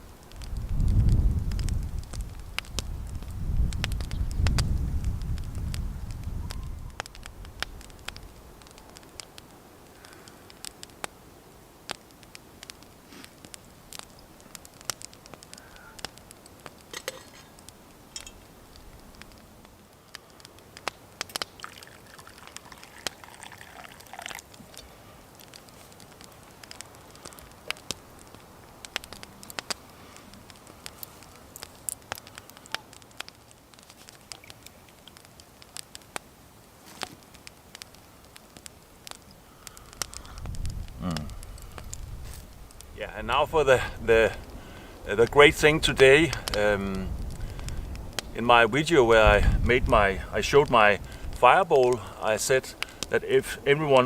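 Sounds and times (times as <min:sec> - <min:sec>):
campfire crackling and popping: 0:00.0 - 0:54.0
faint steady hiss: 0:00.0 - 0:54.0.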